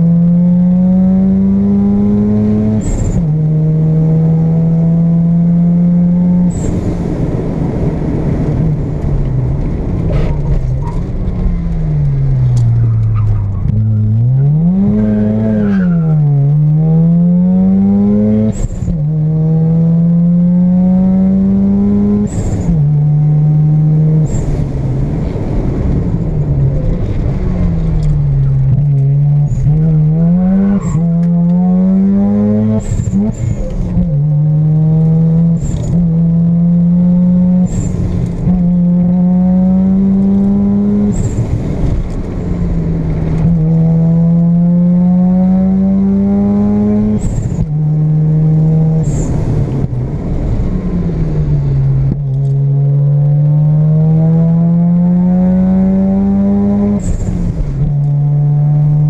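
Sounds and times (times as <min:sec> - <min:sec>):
rotary engine accelerating: 0:00.0 - 0:59.0.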